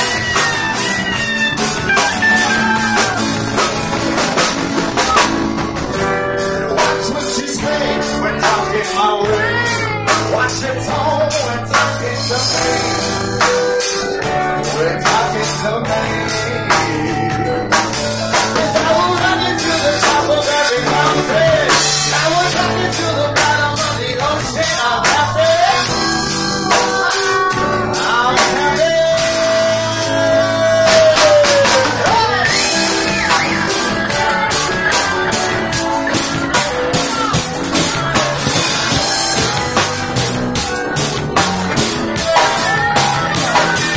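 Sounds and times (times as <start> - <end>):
drum kit: 0.0 - 43.9
electric and acoustic guitar: 0.0 - 43.9
man singing into a microphone: 5.0 - 43.9.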